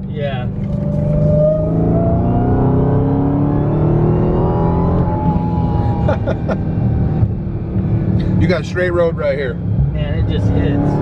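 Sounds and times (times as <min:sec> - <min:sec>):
supercharger whine: 0:00.0 - 0:11.0
car engine accelerating hard: 0:00.3 - 0:11.0.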